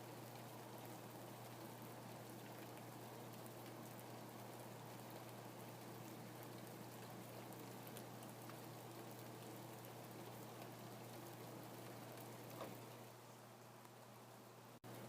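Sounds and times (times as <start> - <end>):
faint rain falling: 0.0 - 15.0.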